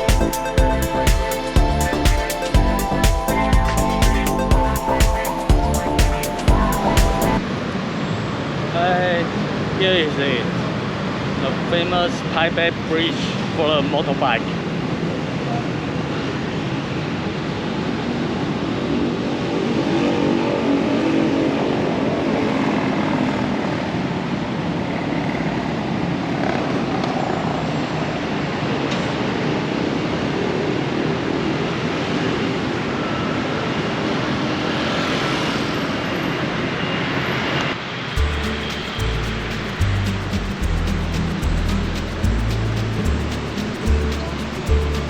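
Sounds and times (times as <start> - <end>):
traffic noise: 6.6 - 45.0.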